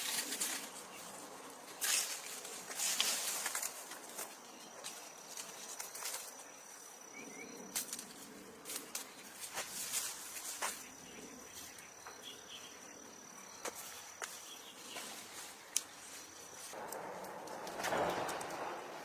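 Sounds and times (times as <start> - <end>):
rustling noises: 0.0 - 6.8, 7.7 - 12.2, 13.6 - 19.0
cricket trilling: 0.0 - 19.0.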